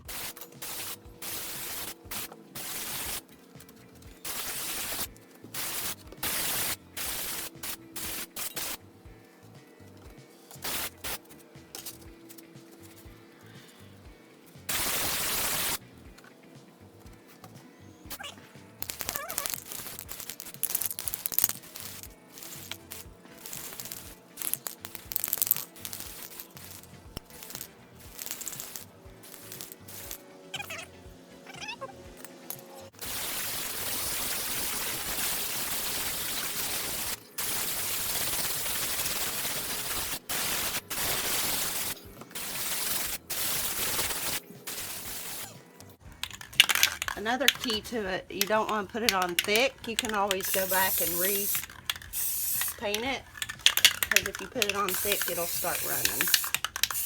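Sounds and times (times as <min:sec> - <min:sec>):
spray can ball rattling: 0:00.0 - 0:15.8, 0:16.9 - 0:30.8, 0:32.3 - 0:57.0
spray paint hissing: 0:00.0 - 0:16.0, 0:18.1 - 0:30.9, 0:32.4 - 0:57.0.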